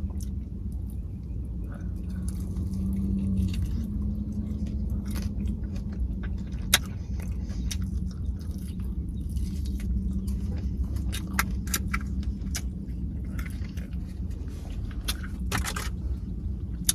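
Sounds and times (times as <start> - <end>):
person chewing crunchy food: 0.0 - 16.9
steady low hum: 0.0 - 16.9.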